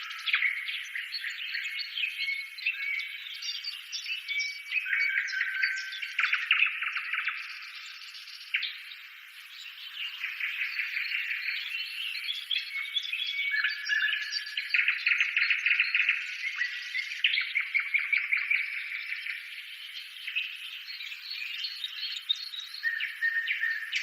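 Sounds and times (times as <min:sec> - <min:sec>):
birds chirping and trilling: 0:00.0 - 0:24.0.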